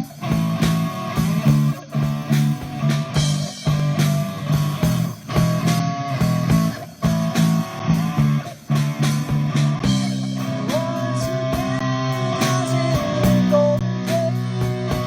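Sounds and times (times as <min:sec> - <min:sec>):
bass guitar: 0:00.0 - 0:15.0
drum kit beat: 0:00.0 - 0:15.0
electric guitar lead: 0:00.0 - 0:15.0.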